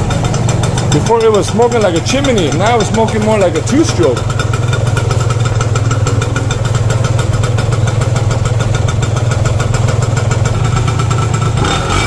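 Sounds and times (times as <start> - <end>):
two-stroke engine running fast: 0.0 - 12.0.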